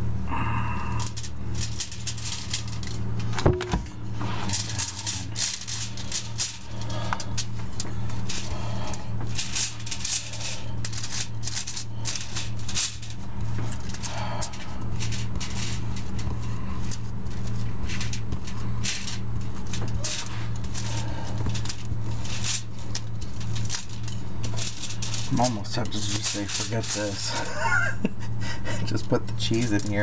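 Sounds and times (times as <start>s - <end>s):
low electrical hum: 0.0s - 30.0s
aluminium foil crinkling: 0.8s - 30.0s.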